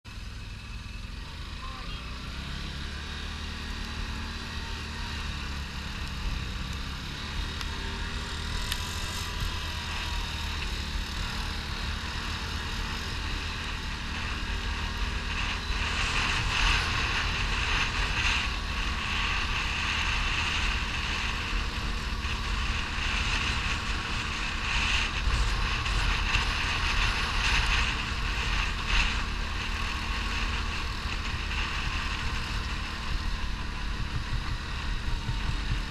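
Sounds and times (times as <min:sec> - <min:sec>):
quad bike engine running: 0:00.0 - 0:35.9.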